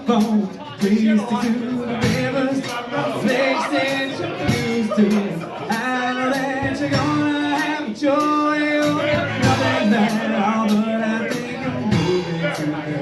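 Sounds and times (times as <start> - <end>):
acoustic band playing: 0.0 - 13.0
light percussion beat: 0.0 - 13.0
man singing long notes: 0.0 - 13.0.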